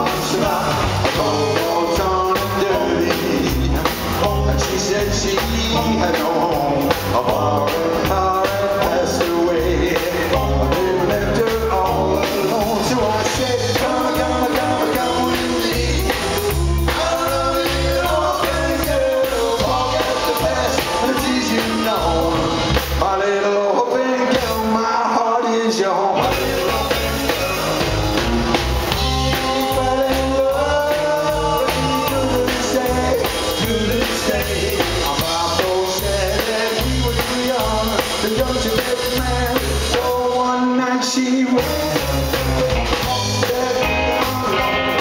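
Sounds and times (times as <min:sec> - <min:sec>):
double bass walking line: 0:00.0 - 0:23.2, 0:26.2 - 0:40.3
drums keeping a beat: 0:00.0 - 0:23.4, 0:24.2 - 0:24.8, 0:26.2 - 0:40.6, 0:41.4 - 0:45.0
electric guitar: 0:00.0 - 0:23.4, 0:26.0 - 0:45.0
man singing: 0:00.0 - 0:28.0, 0:28.8 - 0:45.0.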